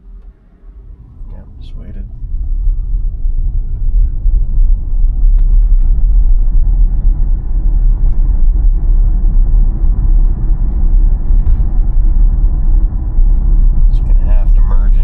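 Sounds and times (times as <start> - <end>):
tyre and road noise in car: 0.0 - 15.0.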